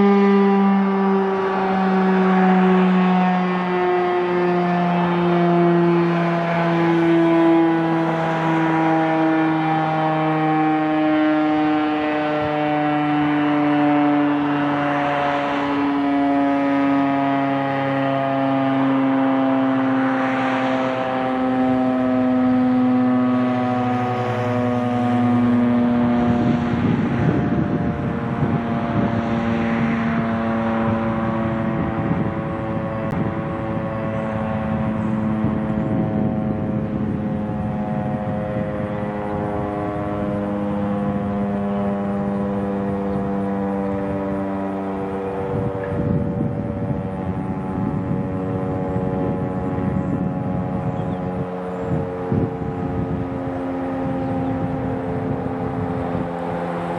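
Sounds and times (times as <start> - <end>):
rotating fire siren wailing: 0.0 - 56.9.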